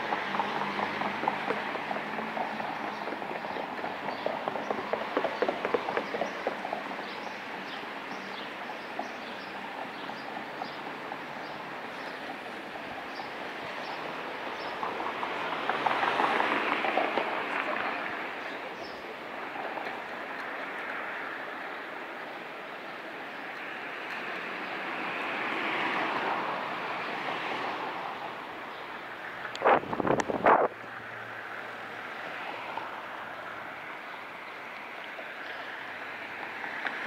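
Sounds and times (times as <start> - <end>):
road and wind noise: 0.0 - 37.0.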